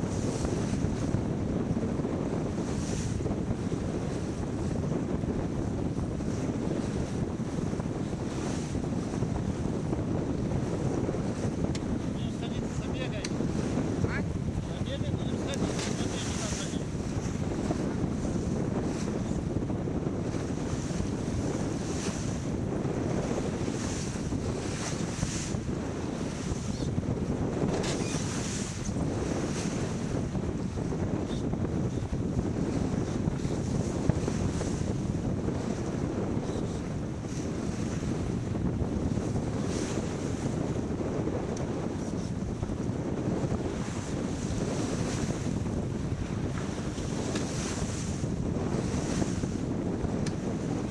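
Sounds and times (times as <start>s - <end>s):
water rushing along hull: 0.0s - 50.9s
wind buffeting microphone: 0.0s - 50.9s.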